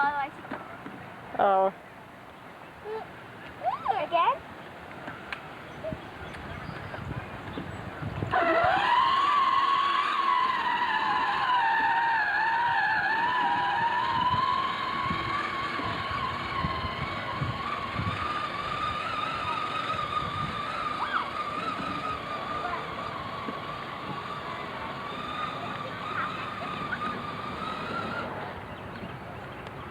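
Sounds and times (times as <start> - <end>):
small vehicle motor whining: 3.5 - 29.9.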